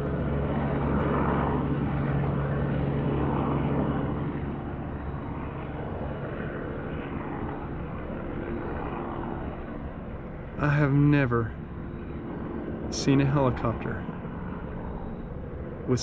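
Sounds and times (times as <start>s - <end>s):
helicopter engine and rotors droning: 0.0s - 16.0s.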